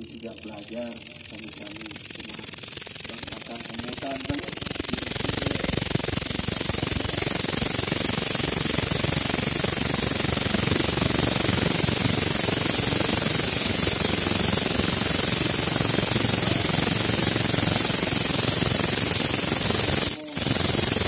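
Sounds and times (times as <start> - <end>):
katydid buzzing: 0.0 - 21.0.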